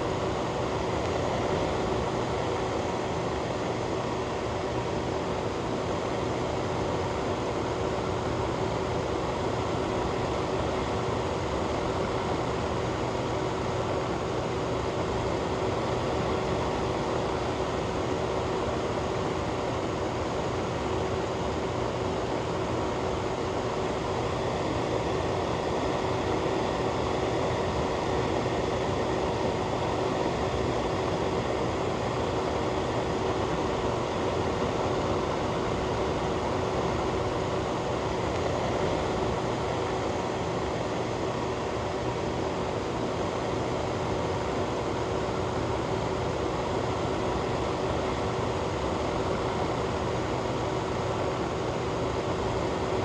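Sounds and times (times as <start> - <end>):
faint steady hum: 0.0 - 53.0
ventilation fan rushing air: 0.0 - 53.0.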